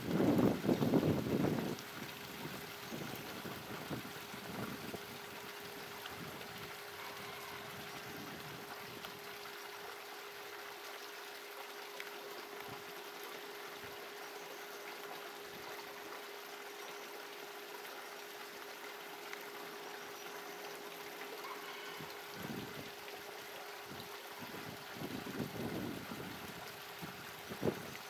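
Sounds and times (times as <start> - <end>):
faint constant hum: 0.0 - 28.0
stream running over stones: 0.0 - 28.0.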